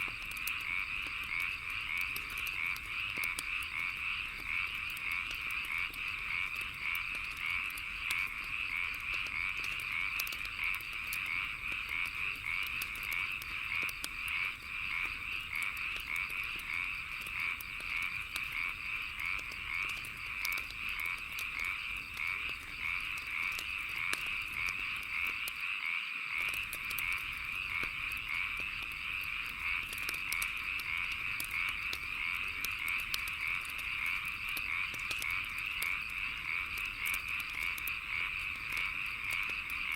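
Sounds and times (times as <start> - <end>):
wood fire crackling: 0.0 - 25.7, 26.3 - 39.9
frog chorus croaking: 0.0 - 39.9.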